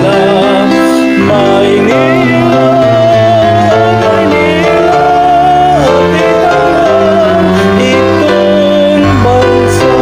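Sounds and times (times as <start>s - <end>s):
instrumental accompaniment: 0.0s - 10.0s
person singing with vibrato: 0.0s - 10.0s.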